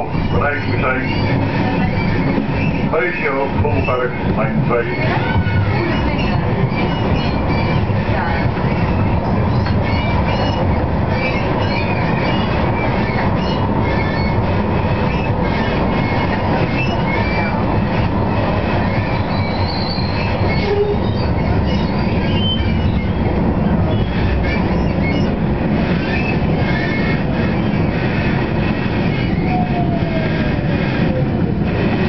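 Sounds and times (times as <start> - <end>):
high wheel squeals: 0.0 - 28.4
wheels rumbling on rail: 0.0 - 32.0.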